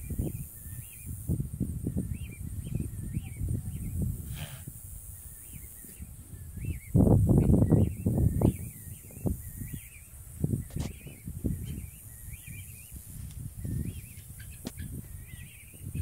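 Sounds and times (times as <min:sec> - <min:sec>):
low rumbling on microphone: 0:00.0 - 0:16.0.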